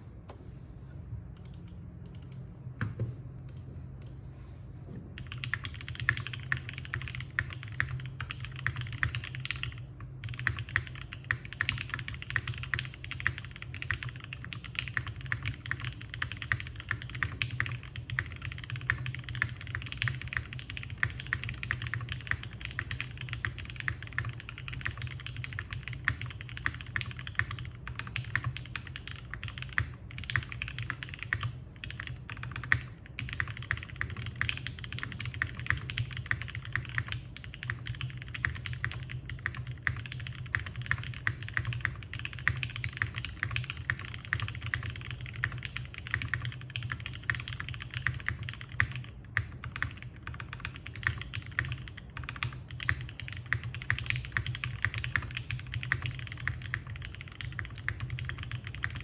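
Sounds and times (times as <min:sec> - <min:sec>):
typing on mechanical keyboard: 0:05.2 - 0:59.0.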